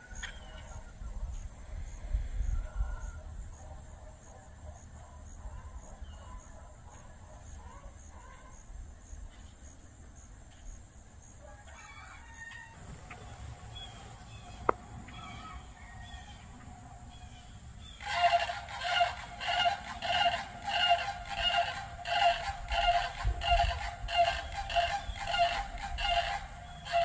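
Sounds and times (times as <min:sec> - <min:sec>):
loud fowl calls: 0:00.0 - 0:09.6, 0:11.3 - 0:27.0.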